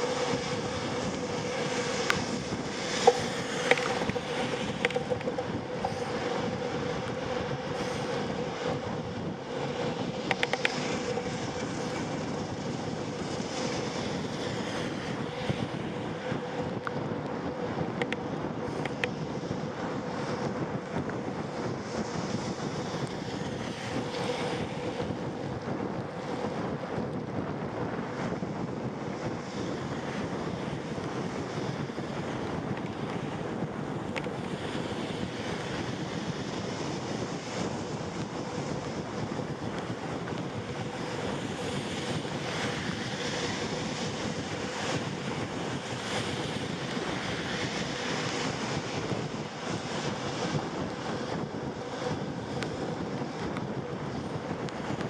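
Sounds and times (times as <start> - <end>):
faint steady hum: 0.0 - 55.0
wind on microphone: 0.0 - 55.0.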